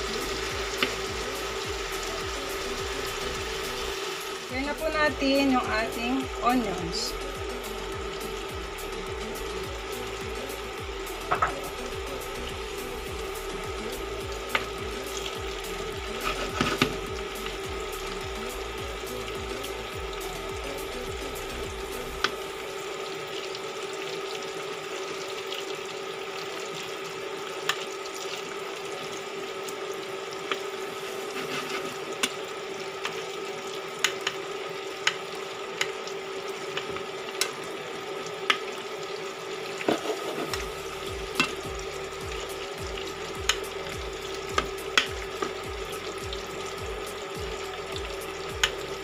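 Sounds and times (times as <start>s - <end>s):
fish sizzling in a frying pan: 0.0s - 49.0s
steady hum: 0.0s - 49.0s.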